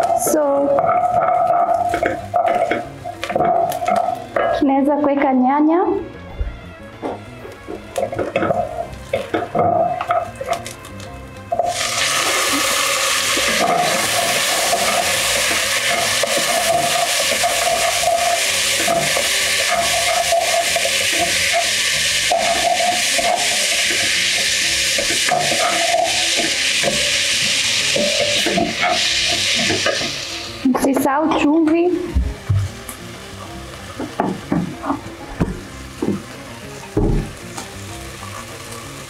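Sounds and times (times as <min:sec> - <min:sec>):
onions frying in hot oil: 0:00.0 - 0:04.4, 0:07.8 - 0:39.0.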